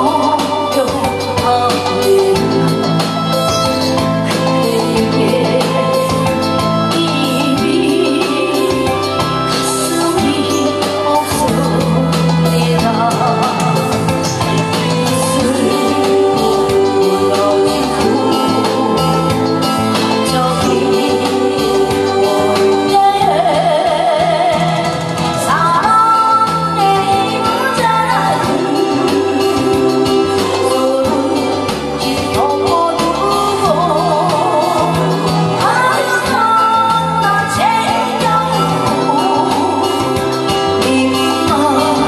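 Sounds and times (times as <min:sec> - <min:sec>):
amplified accompaniment with steady beat: 0:00.0 - 0:42.0
woman singing with vibrato: 0:00.0 - 0:42.0.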